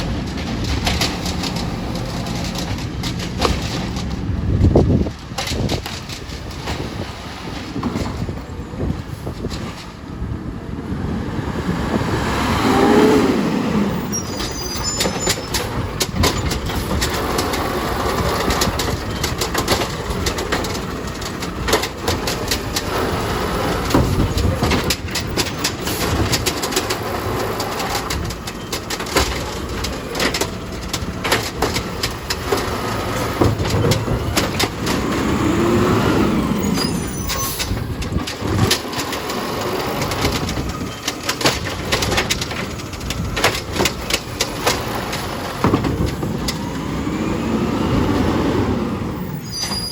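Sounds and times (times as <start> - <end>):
garbage truck diesel engine: 0.0 - 49.9
hydraulics whirring: 0.0 - 49.9
lifting arm and cart clatter: 0.0 - 49.9.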